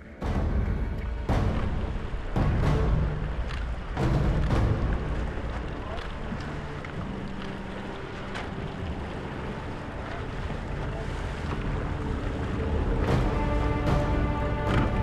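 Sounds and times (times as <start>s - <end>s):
waves splashing against hulls: 0.0s - 15.0s.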